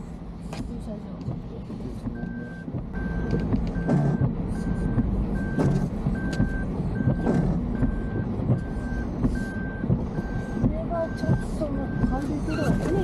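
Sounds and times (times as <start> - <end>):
low engine rumble: 0.0 - 13.0
reverse warning beeps: 2.1 - 13.0.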